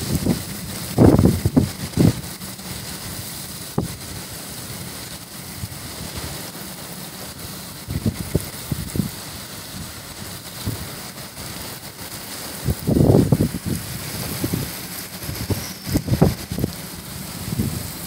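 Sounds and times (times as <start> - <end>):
driven rain hissing: 0.0 - 18.0
wind gusts buffeting microphone: 0.0 - 18.0.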